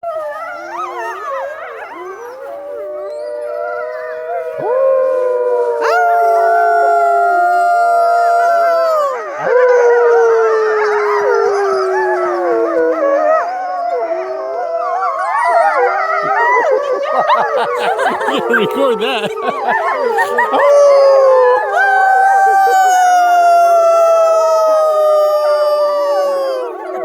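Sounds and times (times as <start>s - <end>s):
wolves howling: 0.0s - 27.0s.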